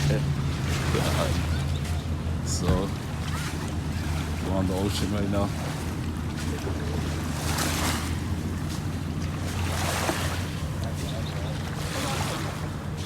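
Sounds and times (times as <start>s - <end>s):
jet ski engine humming: 0.0s - 13.0s.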